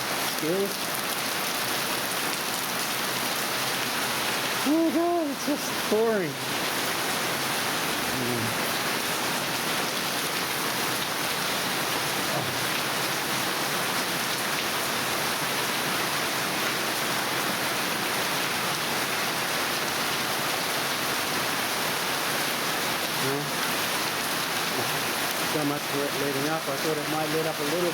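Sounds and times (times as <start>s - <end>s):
heavy rain pouring: 0.0s - 27.9s.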